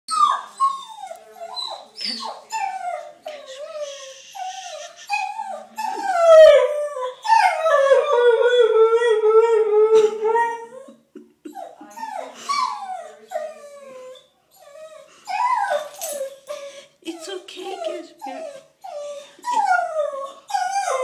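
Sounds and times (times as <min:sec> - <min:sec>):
dog whining and yelping: 0:00.1 - 0:09.3, 0:11.6 - 0:16.7, 0:17.8 - 0:21.0.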